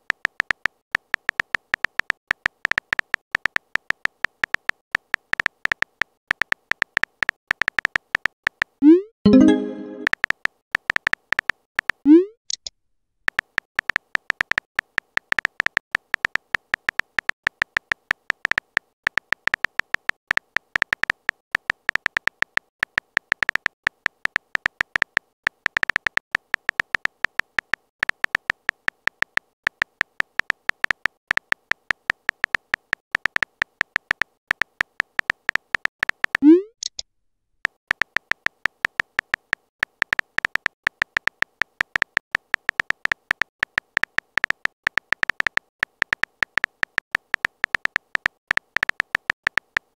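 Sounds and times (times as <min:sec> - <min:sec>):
phone keyboard typing clicks: 0:00.0 - 0:12.7, 0:13.3 - 0:37.0, 0:37.6 - 0:49.9.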